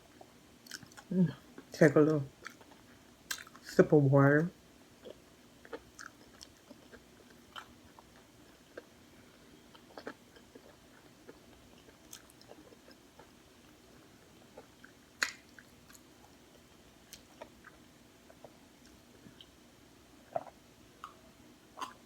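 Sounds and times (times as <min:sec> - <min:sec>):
person chewing food: 0:00.0 - 0:01.7, 0:02.4 - 0:03.6, 0:05.0 - 0:19.6, 0:20.2 - 0:22.0.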